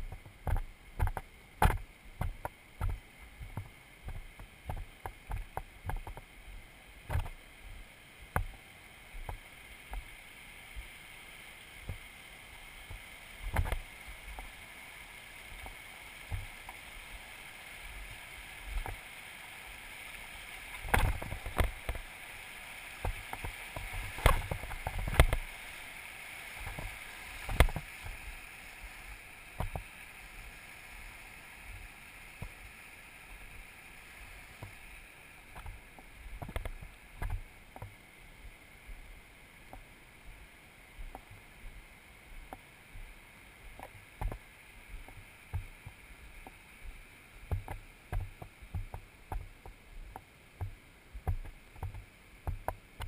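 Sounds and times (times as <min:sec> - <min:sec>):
creek rushing: 0:00.0 - 0:53.0.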